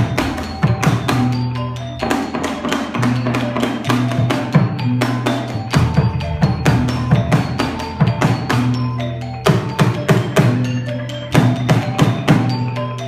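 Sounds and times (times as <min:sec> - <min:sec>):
percussion music: 0:00.0 - 0:13.0.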